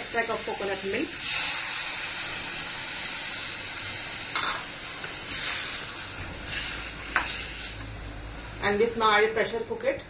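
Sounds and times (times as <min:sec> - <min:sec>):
food sizzling in a pan: 0:00.0 - 0:09.2.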